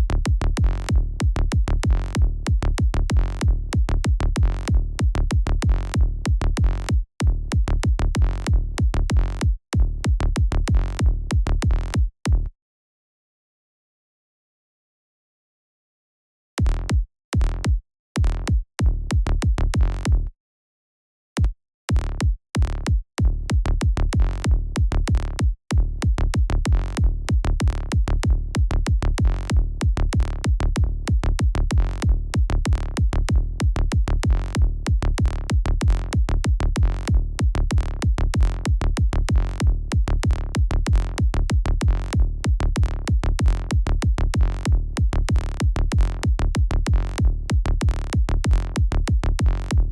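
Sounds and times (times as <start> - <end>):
electronic kick drum and bass: 0.0 - 12.5, 16.6 - 20.3, 21.4 - 49.9.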